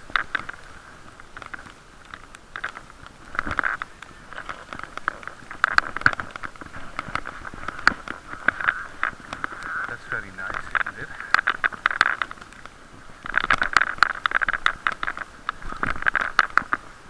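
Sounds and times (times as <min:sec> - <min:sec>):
muffled riding noise hiss: 0:00.0 - 0:17.0.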